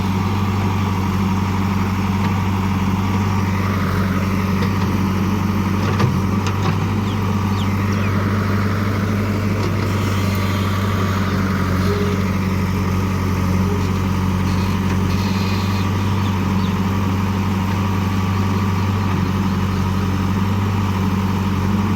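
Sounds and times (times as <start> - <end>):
digger diesel engine running: 0.0 - 21.9.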